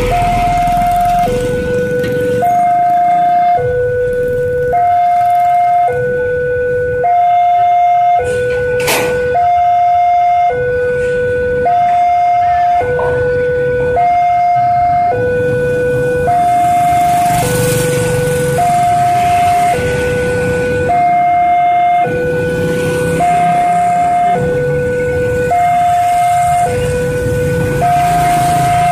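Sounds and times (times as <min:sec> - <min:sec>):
level crossing two-tone alarm: 0:00.0 - 0:28.9.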